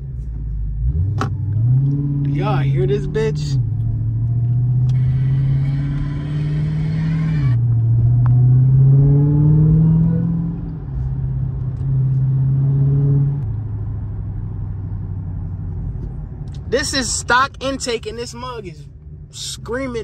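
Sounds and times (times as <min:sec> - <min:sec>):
car engine screaming and whining: 0:00.0 - 0:20.0.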